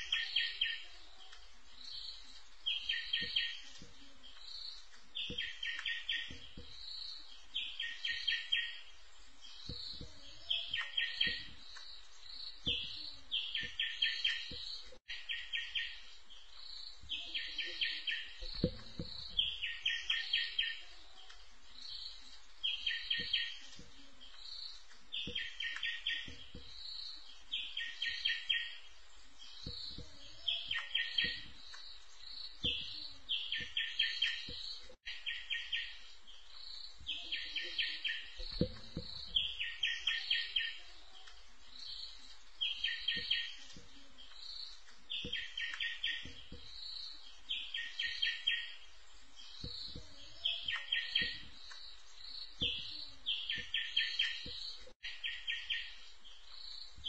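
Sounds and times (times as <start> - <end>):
recorded bird call: 0.0 - 57.0.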